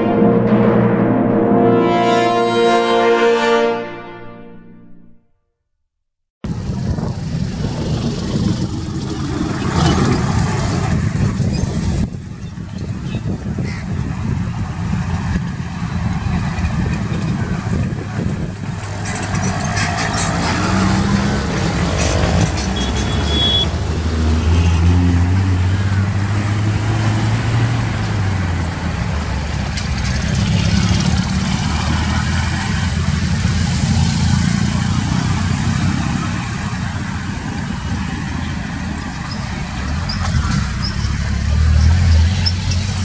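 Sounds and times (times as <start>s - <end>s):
road traffic passing: 0.0s - 5.2s, 6.4s - 43.0s.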